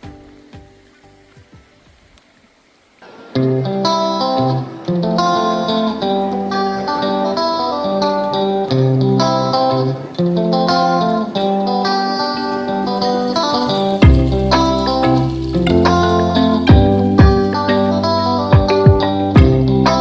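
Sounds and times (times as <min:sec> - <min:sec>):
plucked guitar tune: 0:00.0 - 0:02.1, 0:03.0 - 0:20.0.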